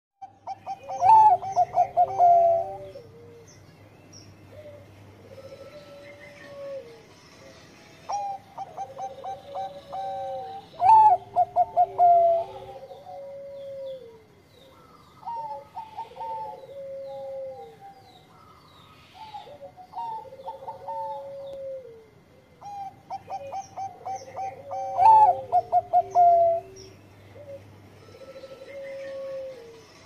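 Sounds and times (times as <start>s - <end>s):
dove cooing: 0.2s - 3.6s, 4.5s - 7.0s, 8.1s - 30.0s.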